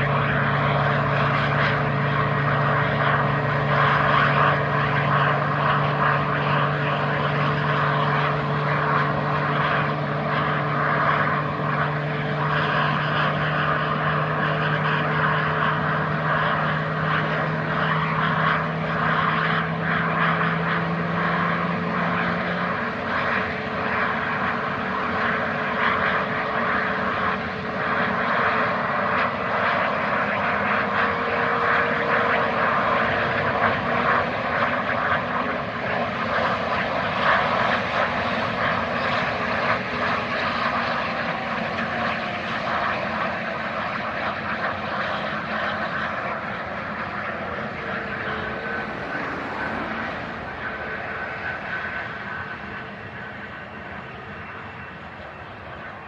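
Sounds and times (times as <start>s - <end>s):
jet engines rushing: 0.0s - 56.0s.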